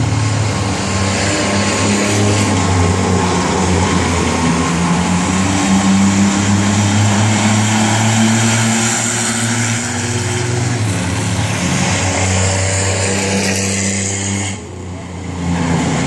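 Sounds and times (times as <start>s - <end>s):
racing car engines droning: 0.0s - 16.0s.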